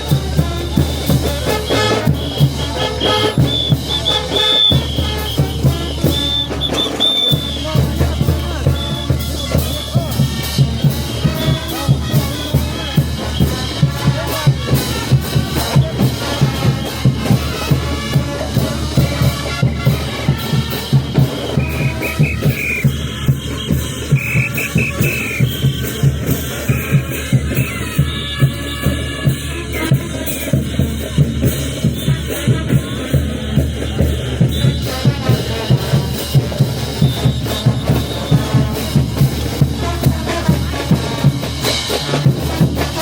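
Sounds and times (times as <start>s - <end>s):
bass drum beat: 0.0s - 43.0s
brass band horns: 0.0s - 43.0s.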